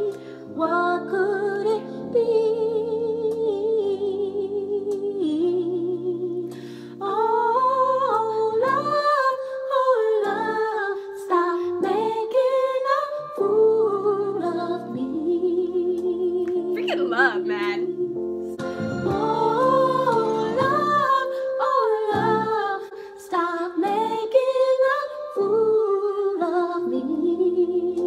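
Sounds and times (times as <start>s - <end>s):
women singing and humming: 0.0s - 18.1s, 19.1s - 28.0s
slow soul song: 0.0s - 28.0s.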